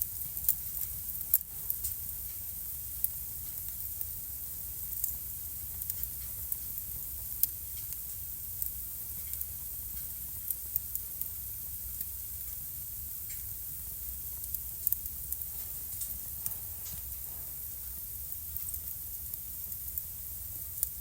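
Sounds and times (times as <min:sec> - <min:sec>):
flames hissing and rumbling: 0:00.0 - 0:21.0
logs crackling and popping: 0:00.2 - 0:21.0.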